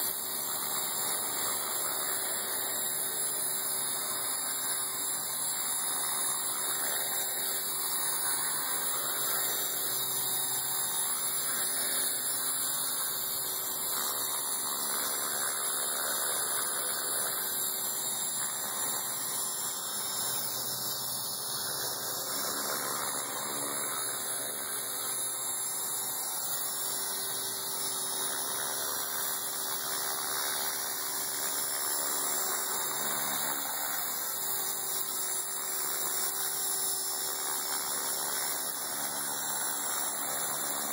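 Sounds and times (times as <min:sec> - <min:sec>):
electric motor whine: 0:00.0 - 0:40.9
rotor blades rushing: 0:00.0 - 0:40.9.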